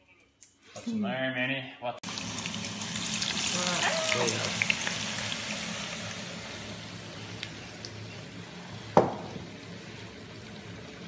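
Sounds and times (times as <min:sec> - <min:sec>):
potatoes sizzling in oil: 0:02.0 - 0:11.0.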